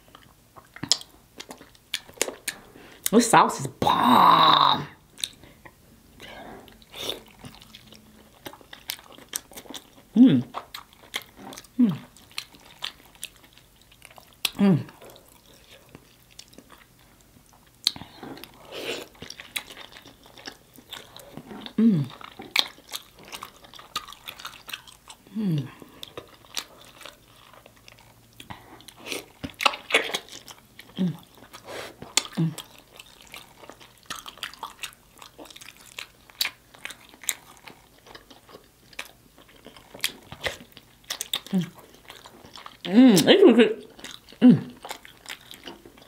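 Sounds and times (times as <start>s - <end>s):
chewing and lip-smacking: 0.0s - 3.2s, 5.0s - 46.0s.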